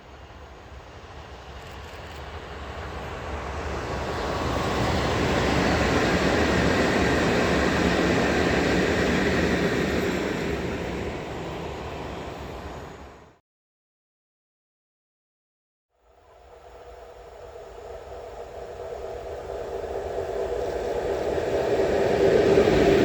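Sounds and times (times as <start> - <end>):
train passing: 0.0 - 13.4, 16.2 - 23.0.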